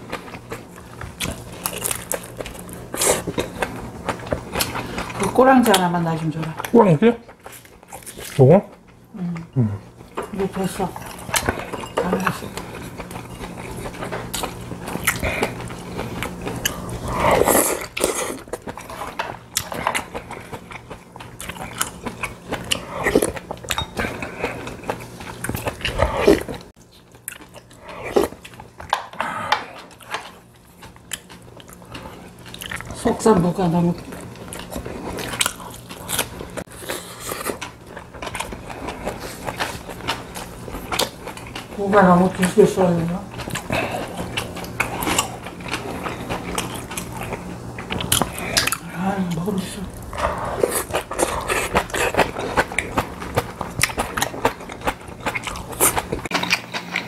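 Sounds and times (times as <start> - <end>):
people chewing crunchy fried fish: 0.0 - 57.0.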